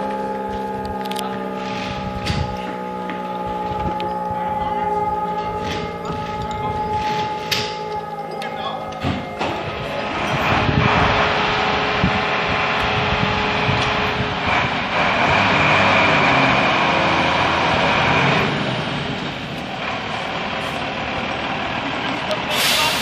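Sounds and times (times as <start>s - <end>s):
diesel engine of heavy vehicle: 0.0s - 23.0s.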